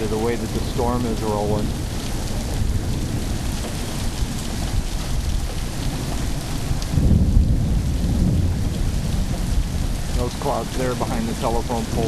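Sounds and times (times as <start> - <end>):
steady rain: 0.0 - 12.0
thunder rumble: 0.0 - 12.0.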